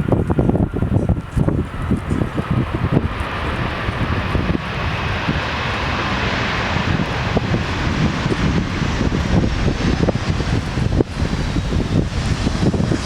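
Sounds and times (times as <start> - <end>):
jet engines rushing: 0.0 - 13.0
wind buffeting microphone: 0.0 - 13.0.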